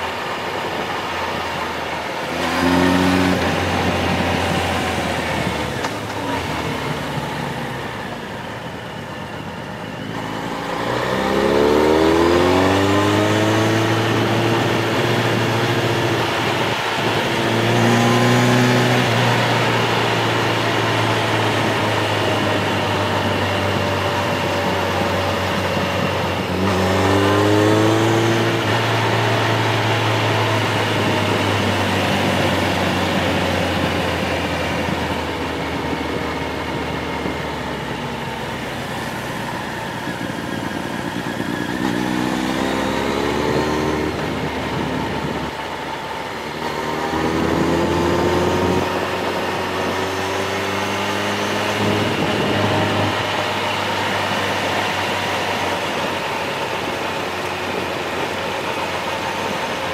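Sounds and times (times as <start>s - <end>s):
vehicle engine revving: 1.6s - 8.2s, 9.9s - 59.9s.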